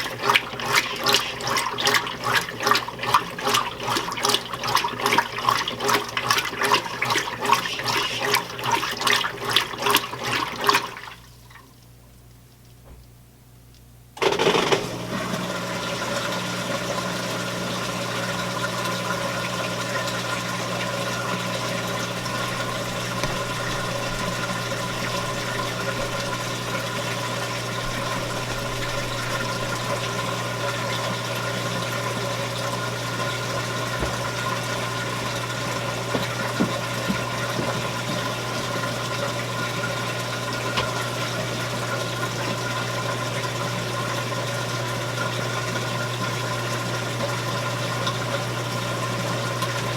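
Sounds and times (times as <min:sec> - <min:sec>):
water pumping out: 0:00.0 - 0:11.3, 0:15.2 - 0:45.9
washing machine drain pump humming: 0:00.0 - 0:49.9.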